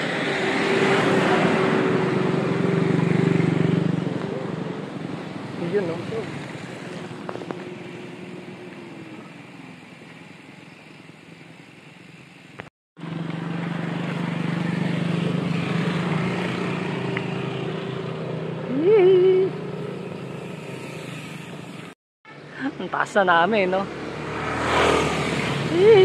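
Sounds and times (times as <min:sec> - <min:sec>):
vehicle engine drone: 0:00.0 - 0:26.0
wind and road noise: 0:00.0 - 0:26.0.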